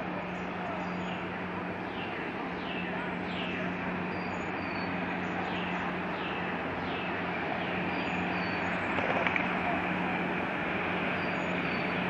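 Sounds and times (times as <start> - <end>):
boat engine humming: 0.0 - 12.0
rushing floodwater: 0.0 - 12.0.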